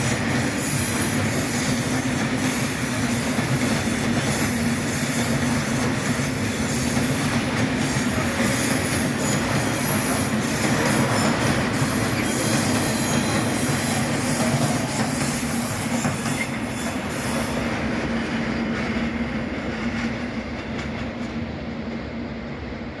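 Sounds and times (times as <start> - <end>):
train wheels squealing: 0.0 - 20.0
freight train rolling past: 0.0 - 23.0.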